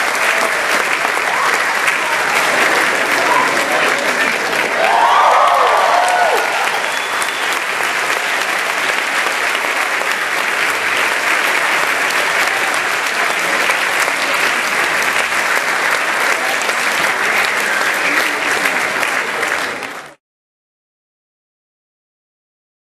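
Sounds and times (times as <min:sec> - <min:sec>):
large audience applauding: 0:00.0 - 0:20.2.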